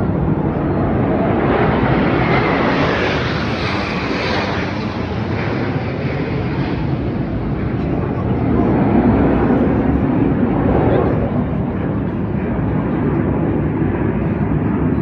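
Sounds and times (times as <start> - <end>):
jet aircraft passing overhead: 0.0 - 15.0.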